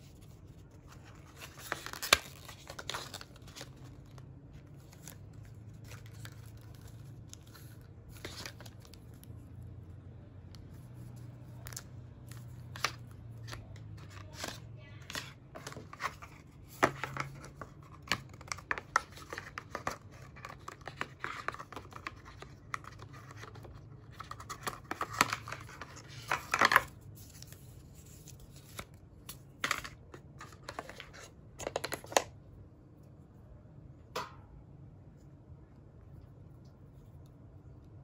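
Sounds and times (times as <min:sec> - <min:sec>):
cardboard packaging rustling: 0:00.1 - 0:09.3, 0:11.0 - 0:32.3.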